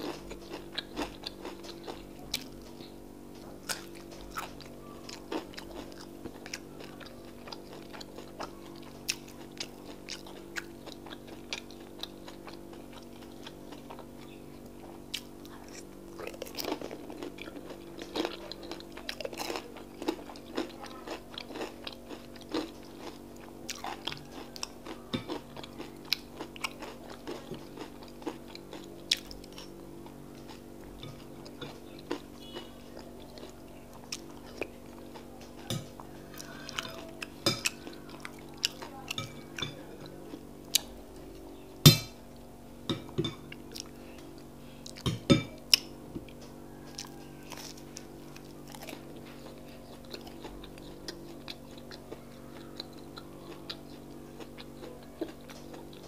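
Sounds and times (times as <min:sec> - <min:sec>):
chewing and wet mouth sounds: 0:00.0 - 0:41.5, 0:42.3 - 0:56.0
steady low hum: 0:00.0 - 0:56.0.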